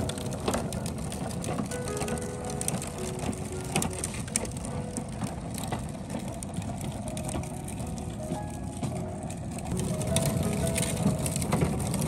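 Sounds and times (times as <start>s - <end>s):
plastic wheels rolling on concrete: 0.0s - 12.0s.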